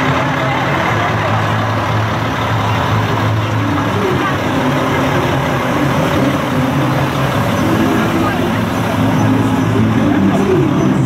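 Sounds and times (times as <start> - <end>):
crowd chatter: 0.0 - 11.0
diesel truck engine idling: 0.0 - 11.0.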